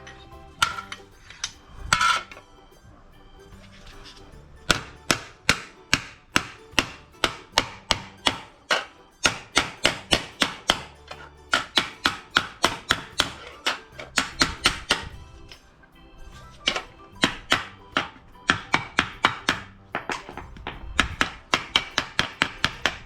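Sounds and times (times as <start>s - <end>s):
hammer striking steel sheet: 3.5s - 15.6s, 16.4s - 23.0s.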